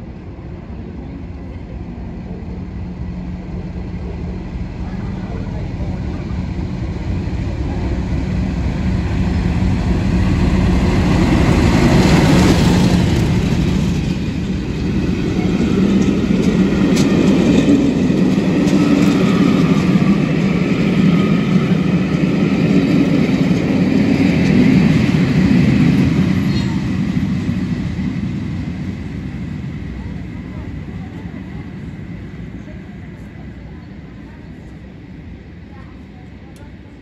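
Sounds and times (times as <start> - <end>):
diesel locomotive engine passing: 0.0 - 37.0
train coaches rumbling: 0.0 - 37.0.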